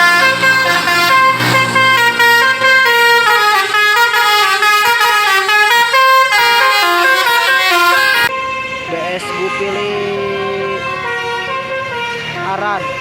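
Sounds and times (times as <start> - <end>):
musical bus horn playing a tune: 0.0 - 13.0.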